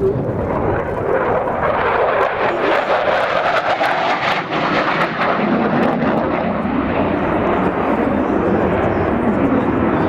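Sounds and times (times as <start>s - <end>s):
jet engine roaring: 0.0s - 10.0s.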